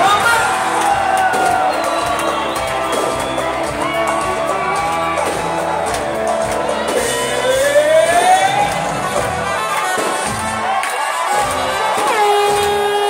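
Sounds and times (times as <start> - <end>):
audience shouting along: 0.0 - 13.0
live band music: 0.0 - 13.0.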